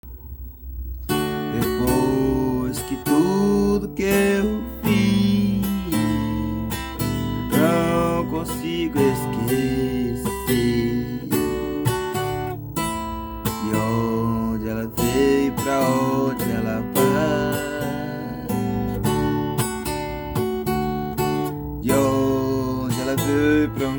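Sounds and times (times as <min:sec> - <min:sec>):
steady bass: 0:00.4 - 0:23.9
strummed acoustic guitar: 0:01.0 - 0:23.9.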